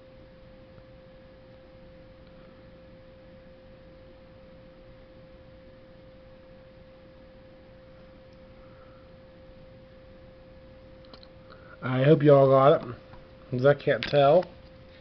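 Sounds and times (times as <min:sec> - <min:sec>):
faint steady tone: 0:00.0 - 0:15.0
low background hiss: 0:00.0 - 0:15.0.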